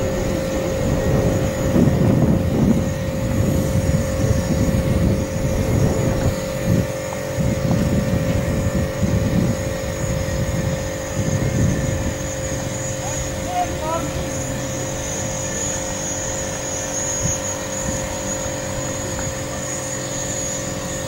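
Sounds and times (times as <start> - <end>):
faint steady hum: 0.0 - 21.0
wind buffeting microphone: 0.0 - 21.0.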